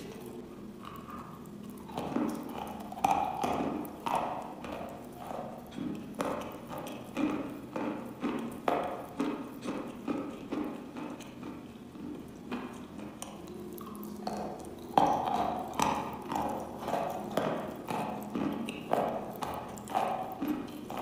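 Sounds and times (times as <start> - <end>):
moist crunchy chewing: 0.0 - 21.0.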